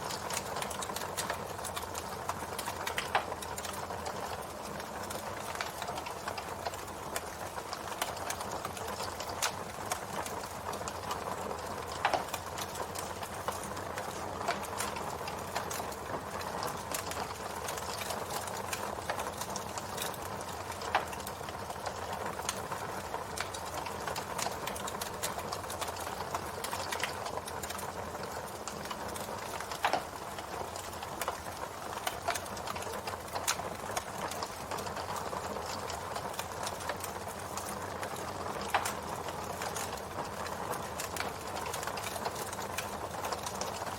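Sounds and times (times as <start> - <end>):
wood crackling and popping: 0.0 - 43.9.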